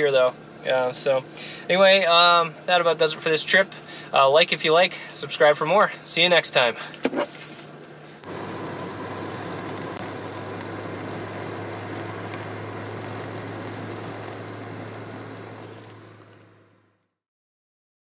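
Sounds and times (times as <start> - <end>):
car interior engine hum: 0.0 - 17.0.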